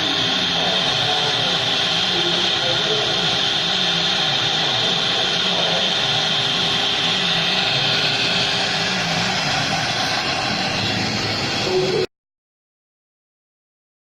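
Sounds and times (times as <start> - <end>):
cutting machine hissing: 0.0 - 12.1
wavering low hum: 0.0 - 12.1.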